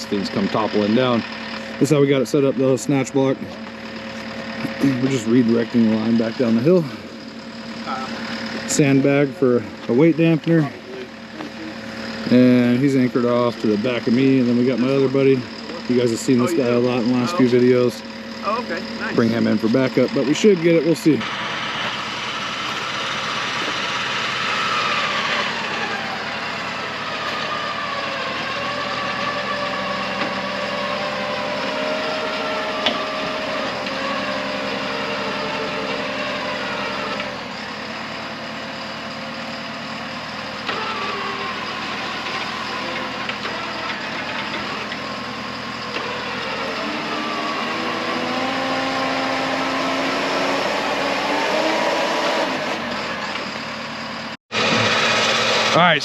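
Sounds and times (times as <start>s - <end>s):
vehicle engines running: 0.0s - 56.0s.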